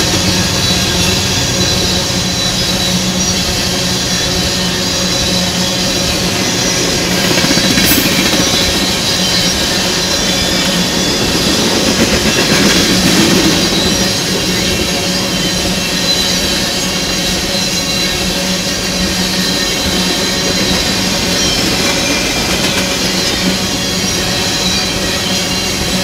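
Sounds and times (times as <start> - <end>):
tank cars rumbling on rails: 0.0 - 26.0.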